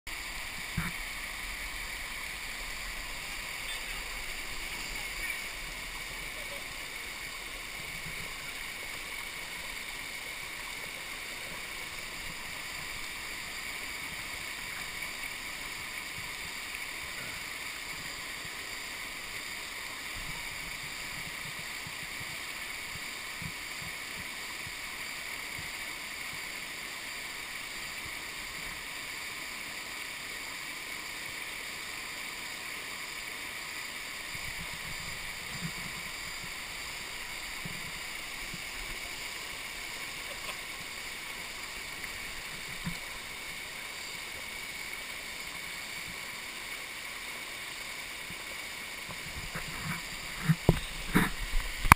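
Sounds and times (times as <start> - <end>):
water rushing over rock: 0.1 - 51.9.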